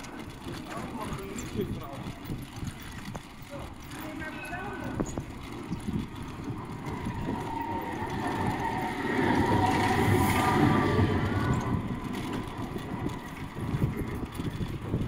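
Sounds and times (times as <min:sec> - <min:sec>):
bicycle riding noise: 0:00.0 - 0:15.0
tram rumbling past: 0:00.0 - 0:15.0.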